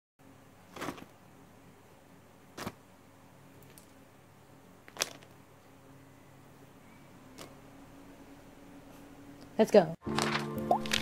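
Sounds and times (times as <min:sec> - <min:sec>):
faint steady hum: 0:00.2 - 0:10.0.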